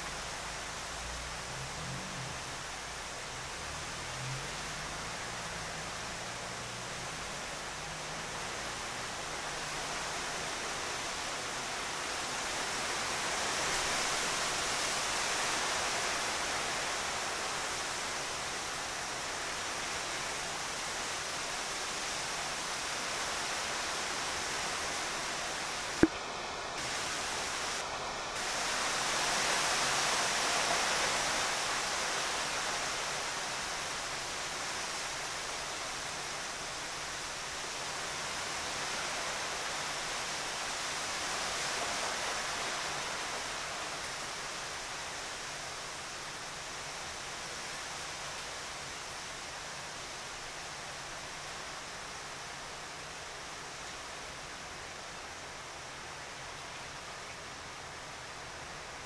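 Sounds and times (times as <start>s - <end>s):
background hiss: 0.0s - 59.0s.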